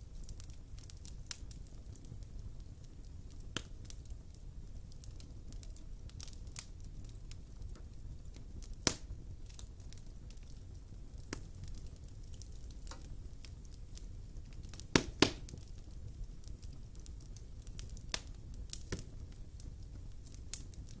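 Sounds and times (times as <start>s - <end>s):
fire flames rumbling: 0.0s - 21.0s
loud sharp pops from fire: 0.0s - 21.0s
wood fire crackling: 0.0s - 21.0s.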